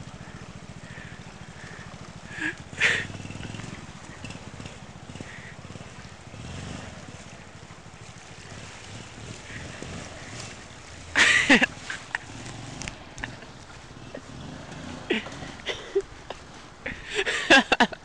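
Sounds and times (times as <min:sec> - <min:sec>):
motorbike engine running: 0:00.0 - 0:16.1.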